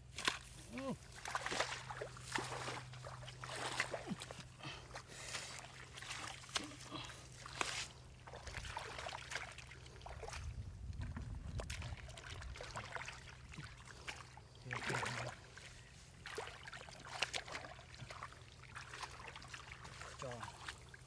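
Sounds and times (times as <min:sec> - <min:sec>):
steady low hum: 0:00.0 - 0:21.0
water sloshing and splashing: 0:00.0 - 0:21.0.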